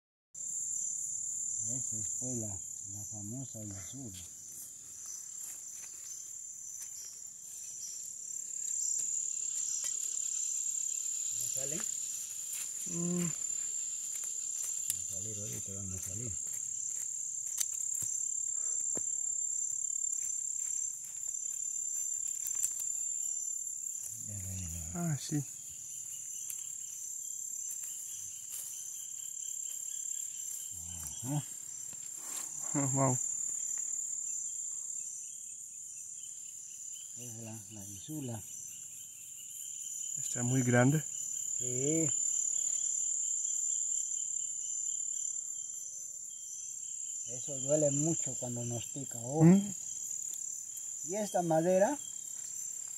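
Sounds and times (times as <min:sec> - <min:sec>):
insect chorus trilling: 0:00.4 - 0:52.9.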